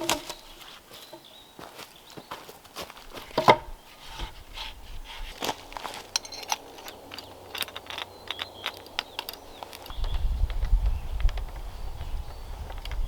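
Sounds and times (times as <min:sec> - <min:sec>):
wood knocking and scraping: 0:00.0 - 0:01.3, 0:03.1 - 0:13.0.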